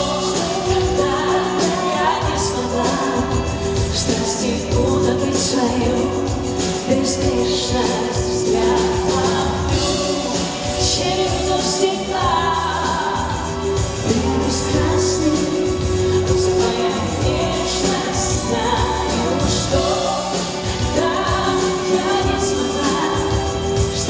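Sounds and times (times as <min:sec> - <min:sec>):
live pop band playing: 0:00.0 - 0:24.0
person singing: 0:00.0 - 0:24.0.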